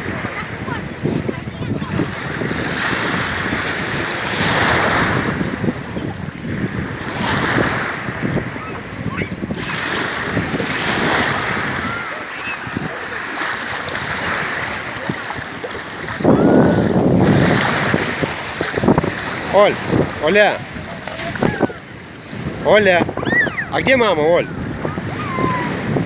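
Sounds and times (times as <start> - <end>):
sea waves washing onto shore: 0.0 - 26.0
wind buffeting microphone: 0.0 - 26.0.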